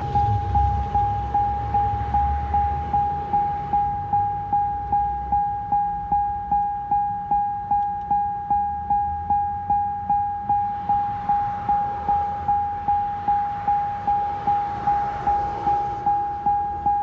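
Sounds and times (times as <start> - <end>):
car door warning chime: 0.2 - 17.0.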